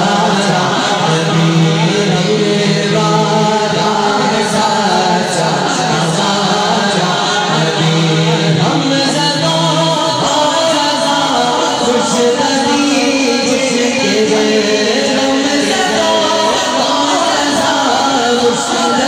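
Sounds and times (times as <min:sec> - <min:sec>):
man singing over pa: 0:00.0 - 0:19.0.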